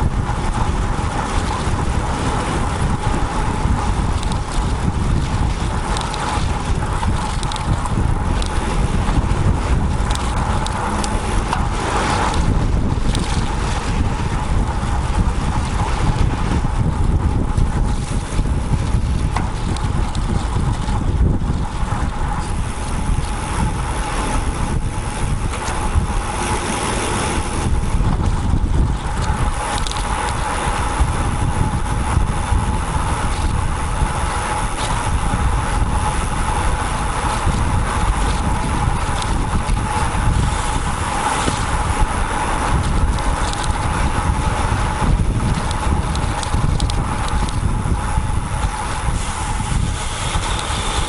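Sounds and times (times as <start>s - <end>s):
rumbling road noise: 0.0s - 51.0s
wind on microphone: 0.0s - 51.0s.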